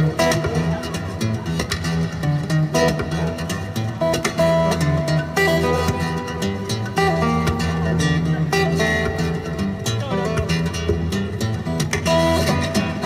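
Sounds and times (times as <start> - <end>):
guitar-led background music: 0.0 - 13.0.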